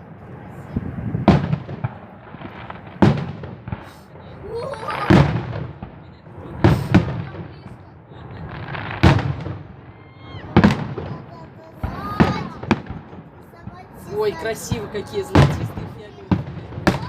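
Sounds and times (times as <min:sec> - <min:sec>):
firework crackle: 0:00.0 - 0:17.0.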